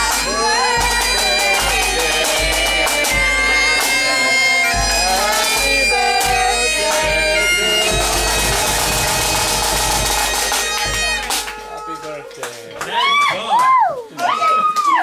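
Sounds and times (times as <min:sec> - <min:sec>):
bass drum beats: 0:00.0 - 0:12.4
bagpipes playing a tune: 0:00.0 - 0:12.8
snare drum beats: 0:00.0 - 0:12.9.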